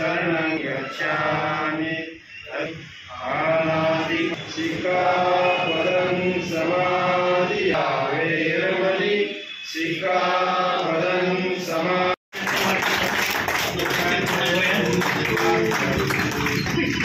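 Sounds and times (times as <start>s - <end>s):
group chanting in unison: 0.0s - 16.3s.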